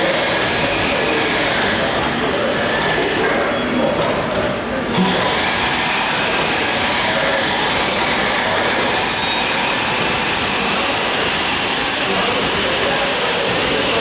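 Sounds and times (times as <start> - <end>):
bag making machine running: 0.0 - 14.0.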